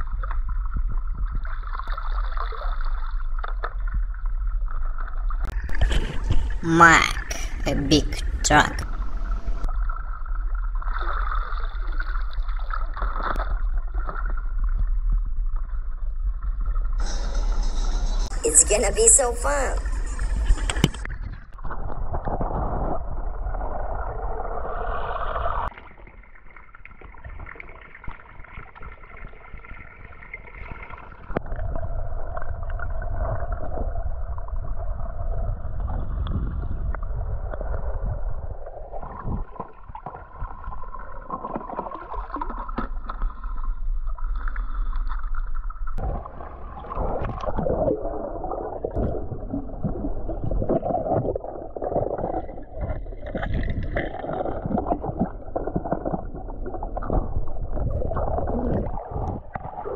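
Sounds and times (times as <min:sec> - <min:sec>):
water sloshing and gurgling: 0:00.0 - 0:59.9.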